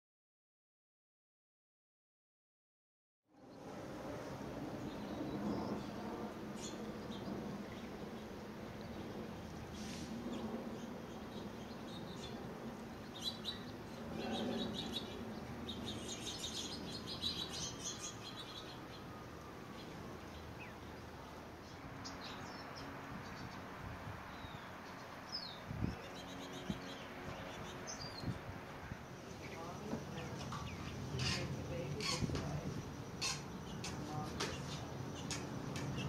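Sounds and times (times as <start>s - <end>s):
finches chirping and twittering: 4.8s - 36.0s.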